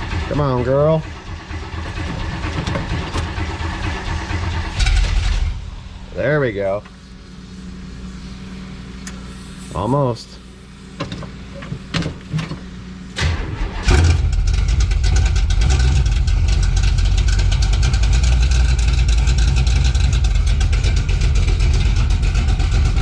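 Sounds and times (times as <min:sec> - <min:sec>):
car engine starting and running: 0:00.0 - 0:09.4, 0:10.4 - 0:23.0.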